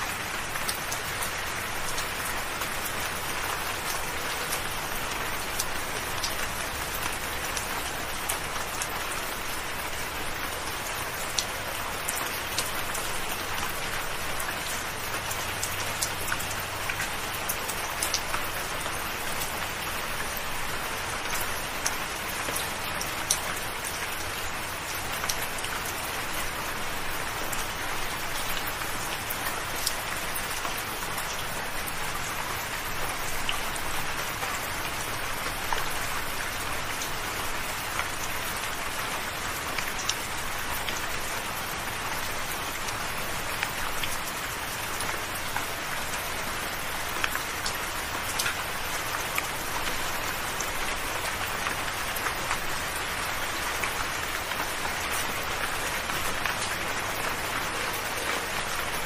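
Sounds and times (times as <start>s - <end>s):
steady soft rain: 0.0s - 59.0s.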